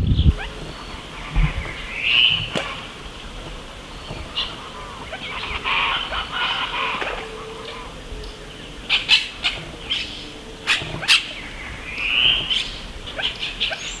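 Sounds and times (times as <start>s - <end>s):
bird chirps: 0.1s - 14.0s
rising bird call: 0.1s - 14.0s.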